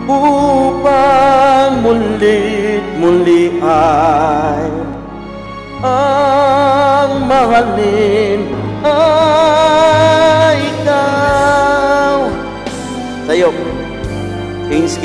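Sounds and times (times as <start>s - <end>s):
man singing with vibrato: 0.0s - 5.1s, 5.8s - 12.8s
musical accompaniment: 0.0s - 15.0s.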